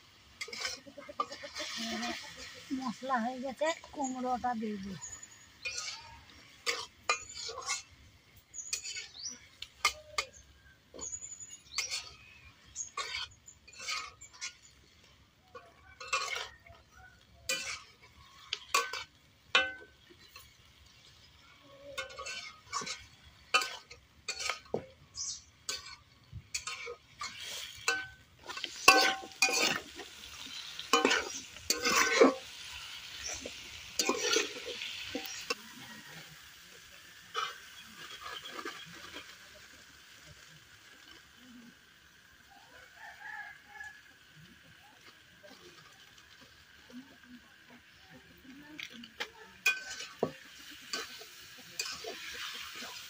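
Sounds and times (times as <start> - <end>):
oil sizzling: 0.0 - 53.0
metal spatula scraping a wok: 0.1 - 4.2, 5.0 - 41.3, 49.0 - 53.0.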